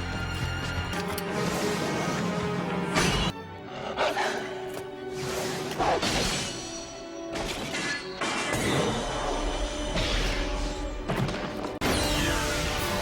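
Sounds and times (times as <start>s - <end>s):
soundtrack music: 0.0s - 13.0s.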